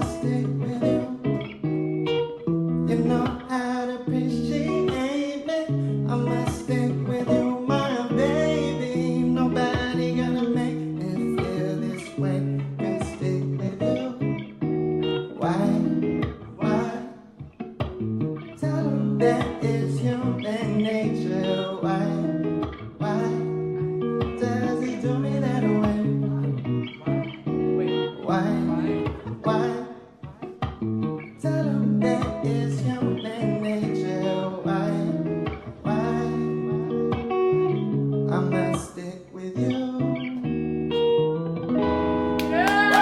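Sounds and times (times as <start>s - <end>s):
acoustic guitar chords: 0.0s - 43.0s.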